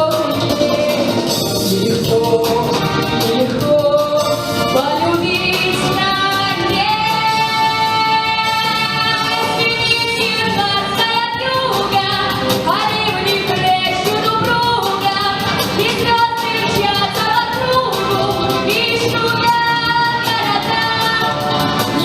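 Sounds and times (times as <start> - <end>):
backing track with steady beat: 0.0 - 22.0.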